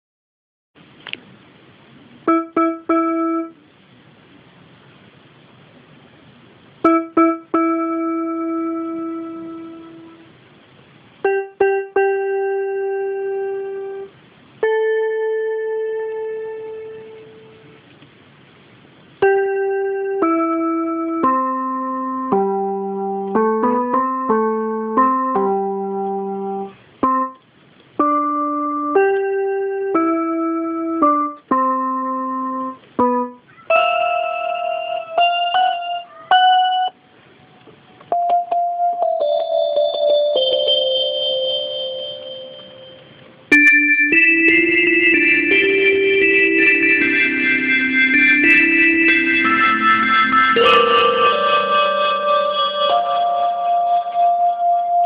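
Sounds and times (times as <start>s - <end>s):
electronic keyboard piano melody: 2.2s - 3.6s, 6.7s - 18.0s, 18.8s - 55.0s.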